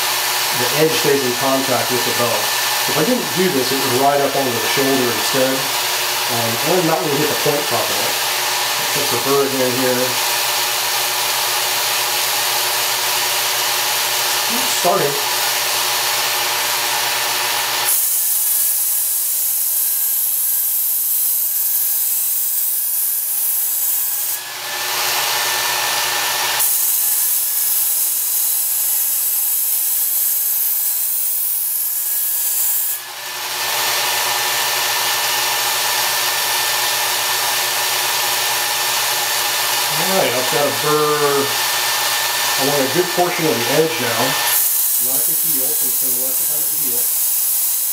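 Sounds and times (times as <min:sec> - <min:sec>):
belt sharpener motor hum: 0:00.0 - 0:47.9.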